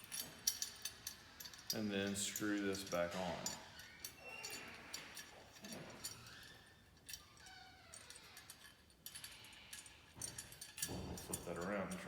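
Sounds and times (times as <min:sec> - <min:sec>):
small metal parts clinking: 0:00.0 - 0:12.0.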